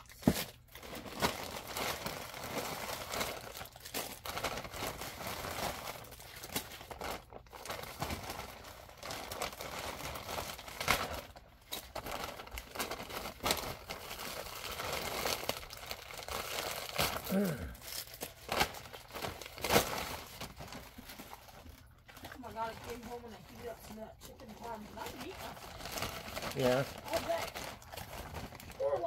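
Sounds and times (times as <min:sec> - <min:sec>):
plastic wrapping crinkling: 0:00.0 - 0:29.0.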